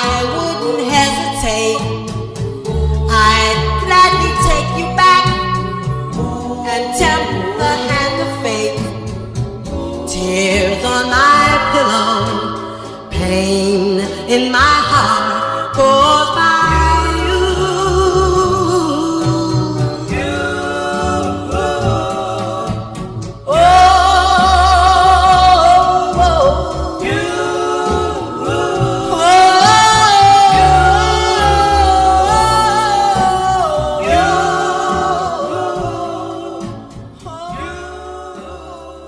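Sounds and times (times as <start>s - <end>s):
backing band: 0.0s - 39.0s
vocal group singing in harmony: 0.0s - 39.0s.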